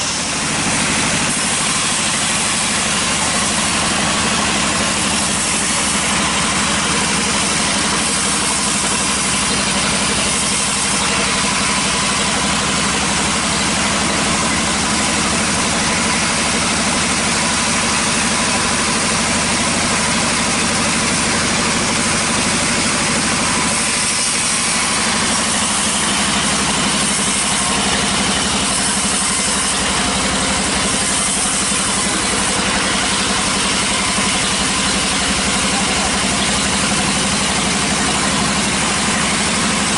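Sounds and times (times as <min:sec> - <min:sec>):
bandsaw cutting a log: 0:00.0 - 0:39.9.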